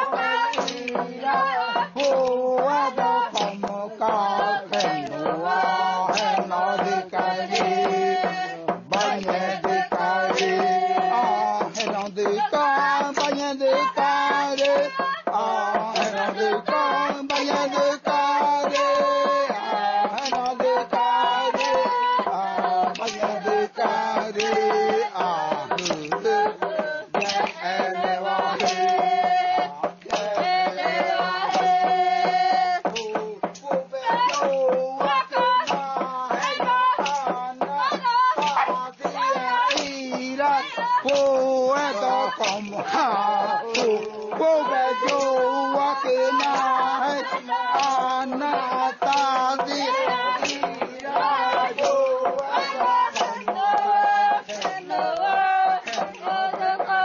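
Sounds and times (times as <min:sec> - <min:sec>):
group chanting: 0:00.0 - 0:57.0
sharp percussive knocks: 0:00.0 - 0:57.0.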